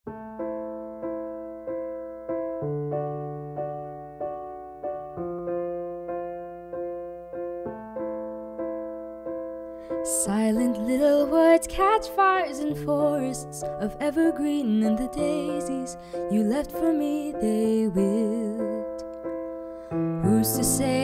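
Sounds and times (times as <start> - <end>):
slow solo piano chords: 0.1 - 21.0.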